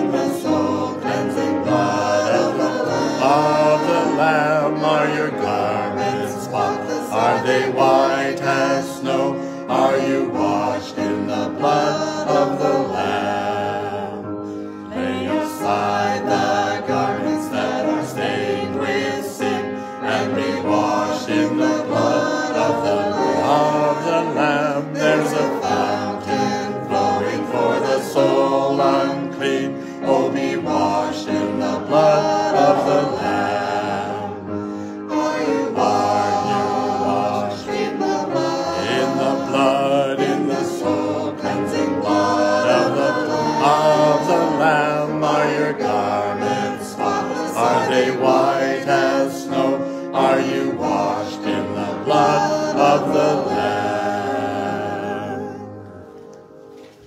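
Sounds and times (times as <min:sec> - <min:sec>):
group singing a hymn: 0:00.0 - 0:57.0.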